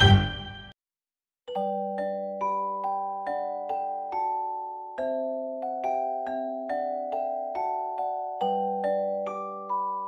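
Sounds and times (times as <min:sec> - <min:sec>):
gentle bell-like tune: 0:01.5 - 0:10.0.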